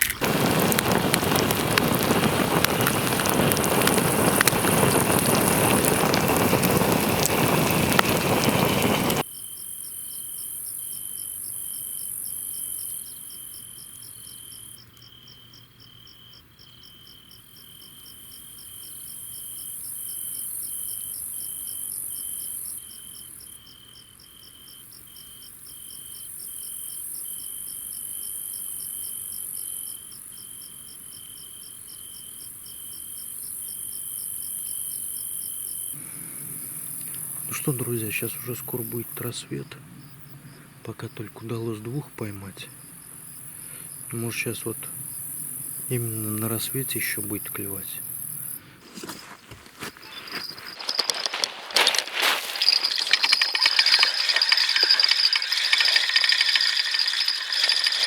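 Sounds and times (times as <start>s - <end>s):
insect trill: 0.0s - 48.6s, 50.0s - 58.0s
crickets chirping: 0.0s - 58.0s.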